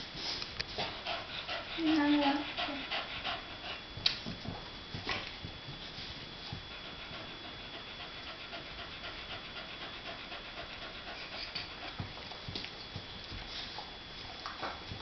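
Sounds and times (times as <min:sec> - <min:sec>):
dog panting: 0:00.2 - 0:12.7.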